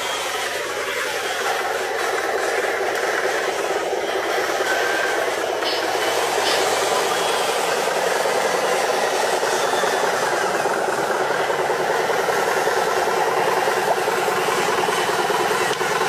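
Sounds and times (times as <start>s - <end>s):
toy truck electric motors running: 0.0s - 16.0s.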